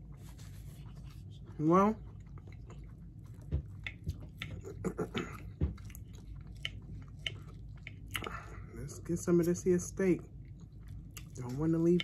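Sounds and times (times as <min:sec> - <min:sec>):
quiet chewing: 0:00.0 - 0:12.0.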